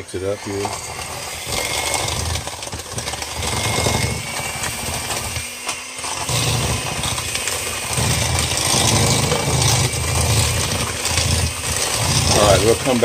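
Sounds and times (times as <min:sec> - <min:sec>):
electric hand mixer running: 0:00.0 - 0:13.0.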